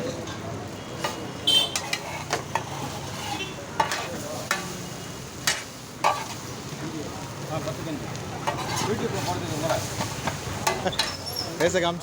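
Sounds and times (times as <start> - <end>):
metal spatula clanging on griddle: 0.0 - 6.4, 8.4 - 11.9
oil sizzling: 0.0 - 12.0.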